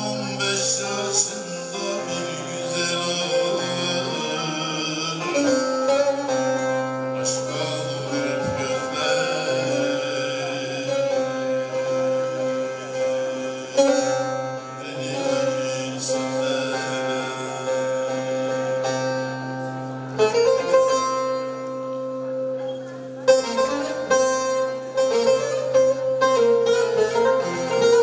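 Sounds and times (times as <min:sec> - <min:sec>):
long-necked lute playing: 0:00.0 - 0:28.0.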